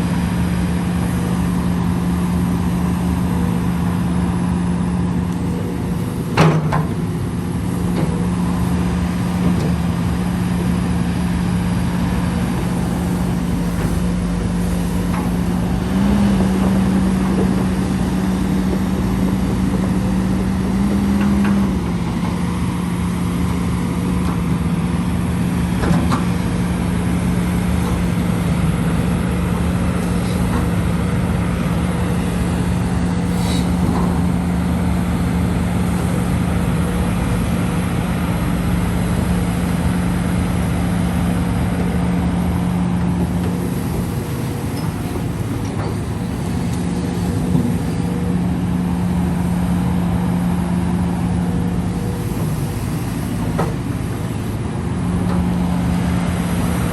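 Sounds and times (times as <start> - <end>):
heavy machine engine running: 0.0 - 56.9.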